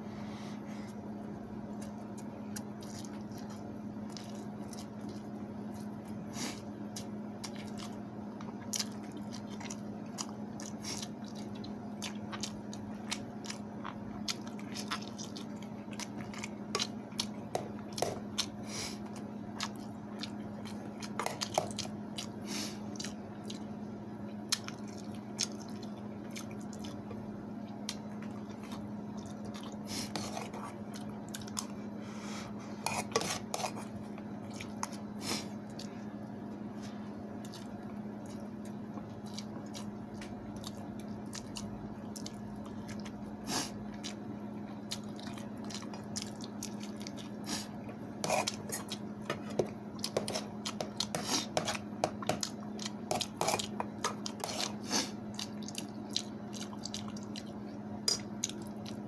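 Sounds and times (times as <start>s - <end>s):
steady low hum: 0.0s - 59.0s
wet chewing: 1.7s - 31.9s, 37.4s - 59.0s.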